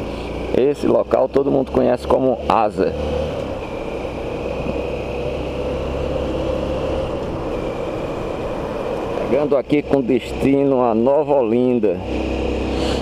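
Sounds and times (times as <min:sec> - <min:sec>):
motorcycle engine rumble: 0:00.0 - 0:13.0
road and wind noise: 0:00.0 - 0:13.0.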